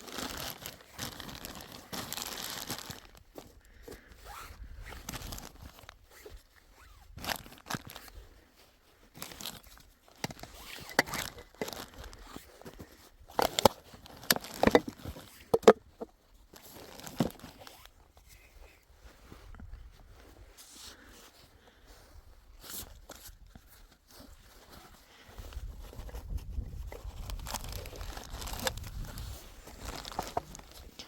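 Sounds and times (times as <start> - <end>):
crunching and crinkling handling noise: 0.0 - 31.0.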